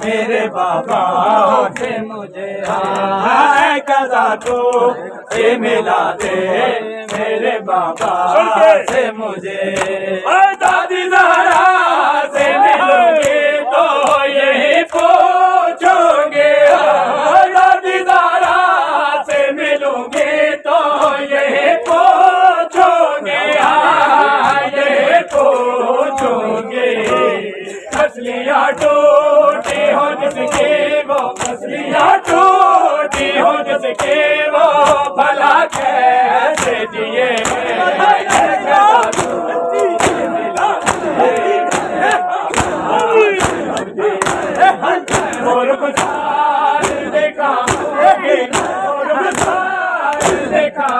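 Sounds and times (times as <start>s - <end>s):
hands slapping chests: 0.0s - 16.0s, 18.1s - 19.5s, 20.1s - 50.9s
men chanting in unison: 0.0s - 50.9s.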